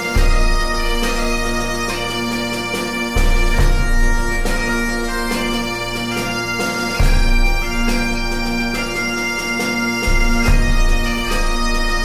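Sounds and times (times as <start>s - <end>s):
bagpipes playing a tune: 0.0s - 12.0s.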